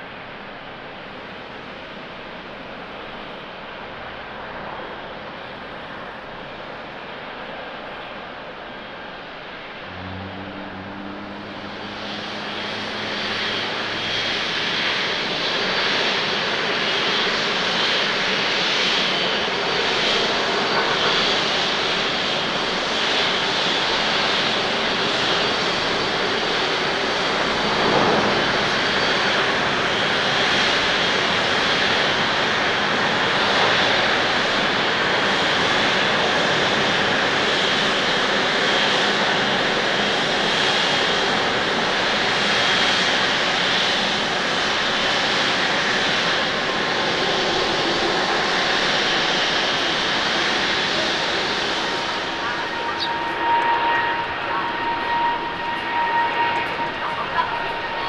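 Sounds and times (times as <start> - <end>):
high fan whine: 0.0 - 58.0
jet engines at takeoff thrust: 0.0 - 58.0.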